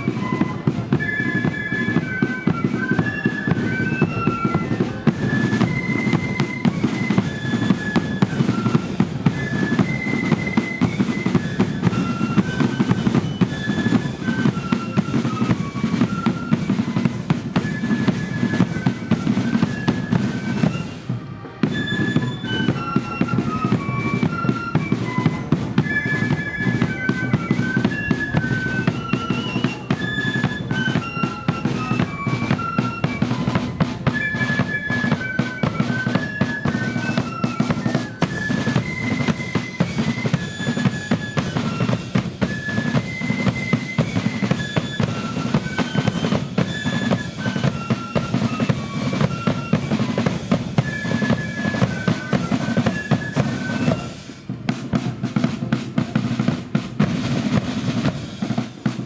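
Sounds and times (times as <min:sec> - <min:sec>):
flute melody: 0:00.0 - 0:59.0
rapid snare drumming: 0:00.0 - 0:59.0.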